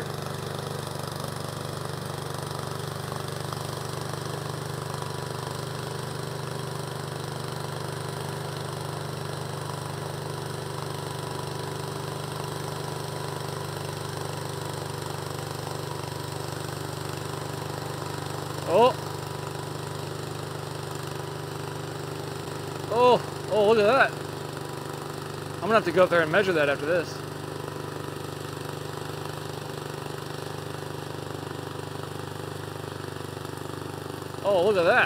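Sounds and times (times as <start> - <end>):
small gas engine running: 0.0 - 35.0.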